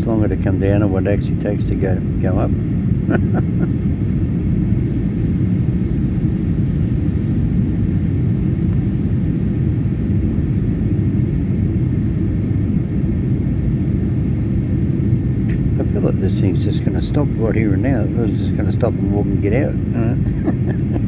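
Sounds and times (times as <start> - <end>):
airliner cabin engine rumble: 0.0 - 21.0.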